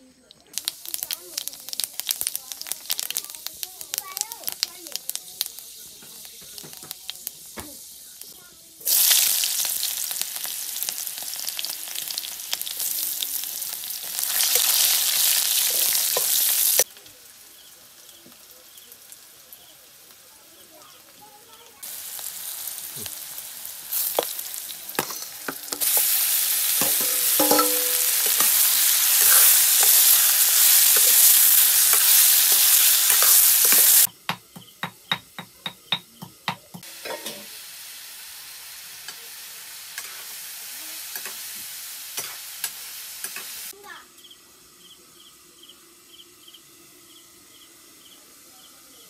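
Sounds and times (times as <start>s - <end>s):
onions sizzling in oil: 0.2s - 49.0s.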